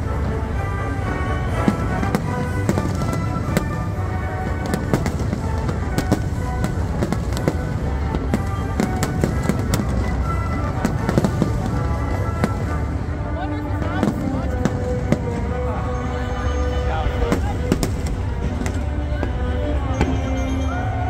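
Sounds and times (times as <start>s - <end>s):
fireworks bursting: 0.0s - 20.5s
symphony orchestra music: 0.0s - 21.0s.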